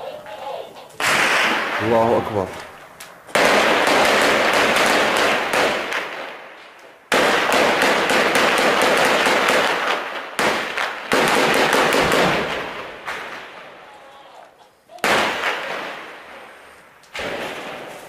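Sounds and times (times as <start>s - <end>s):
automatic gunfire with echo: 1.0s - 2.5s, 3.3s - 13.8s, 15.0s - 18.0s.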